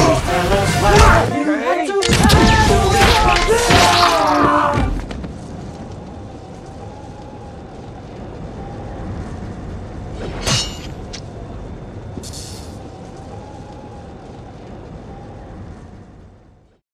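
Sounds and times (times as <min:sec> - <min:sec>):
moving train rumble: 0:00.0 - 0:03.6, 0:04.2 - 0:16.8.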